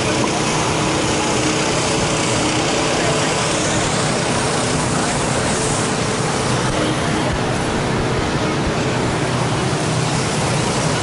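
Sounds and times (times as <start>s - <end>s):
crowd chatter: 0.0s - 11.0s
traffic: 0.0s - 11.0s.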